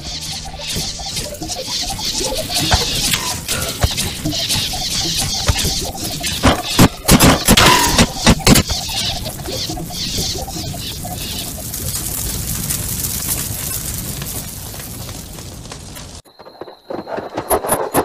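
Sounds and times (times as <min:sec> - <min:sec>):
fire crackling: 0:00.0 - 0:18.0.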